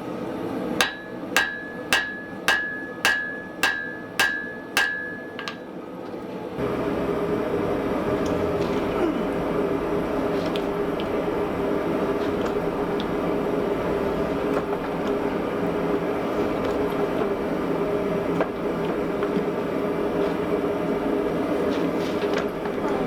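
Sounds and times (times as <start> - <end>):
forge humming: 0.0 - 23.0.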